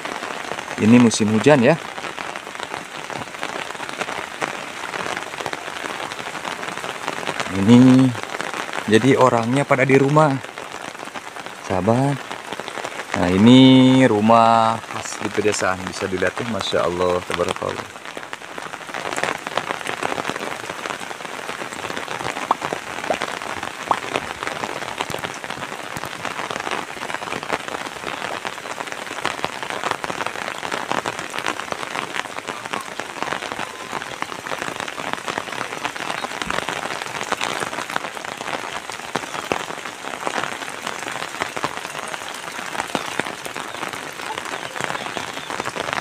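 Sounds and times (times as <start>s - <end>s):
steady rain patter: 0.0s - 46.0s.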